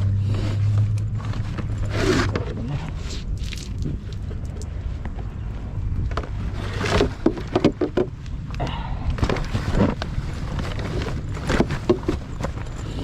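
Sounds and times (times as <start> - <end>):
rustling of gear: 0.0 - 8.3, 9.1 - 13.0
steady low rumble: 0.0 - 13.0.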